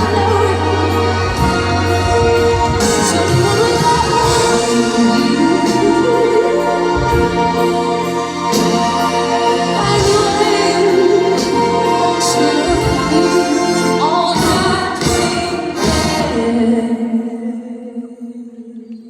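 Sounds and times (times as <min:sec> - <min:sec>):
live band playing pop ballad: 0:00.0 - 0:16.5
person singing: 0:00.0 - 0:19.0.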